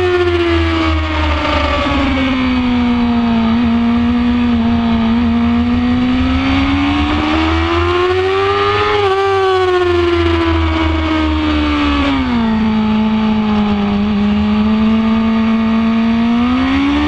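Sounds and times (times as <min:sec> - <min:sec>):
wind rumble on microphone: 0:00.0 - 0:15.8
motorcycle engine at high revs: 0:00.0 - 0:17.0.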